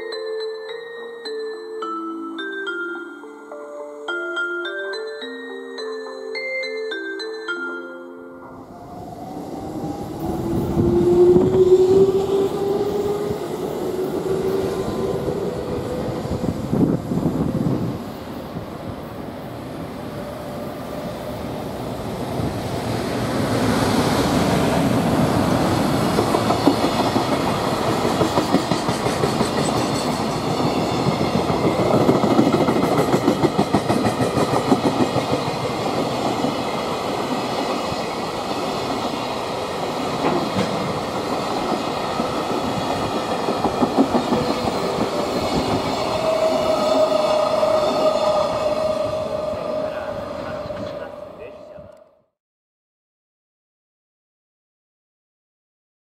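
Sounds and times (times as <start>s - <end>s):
electric locomotive passing: 0.0s - 52.2s.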